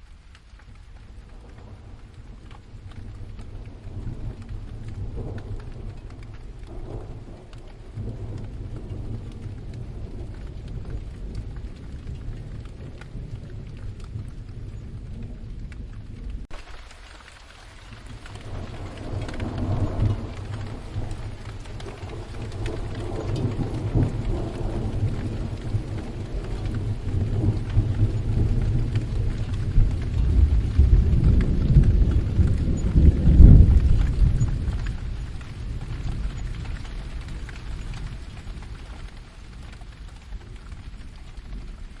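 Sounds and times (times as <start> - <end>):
steady rain: 0.0 - 42.0
rolling thunder: 0.6 - 16.6, 17.7 - 42.0.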